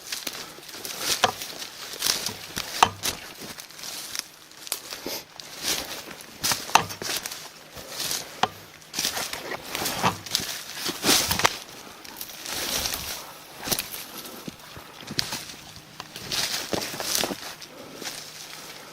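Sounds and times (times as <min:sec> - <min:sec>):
debris crackling underfoot: 0:00.0 - 0:18.9
footsteps crunching on forest path: 0:00.0 - 0:18.9.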